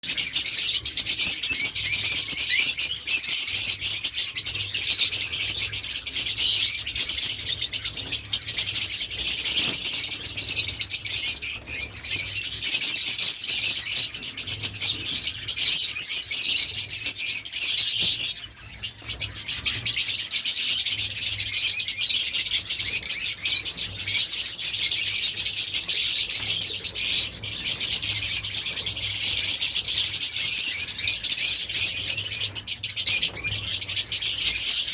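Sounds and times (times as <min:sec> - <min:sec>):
birds chattering and chirping: 0:00.0 - 0:34.9.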